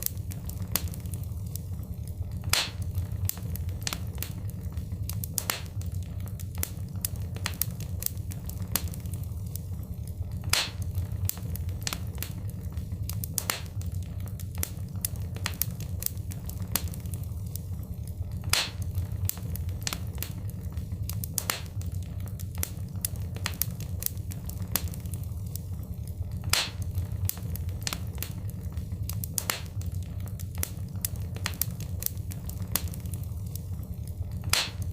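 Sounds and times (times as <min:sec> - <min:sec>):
fire crackling and popping: 0:00.0 - 0:34.9.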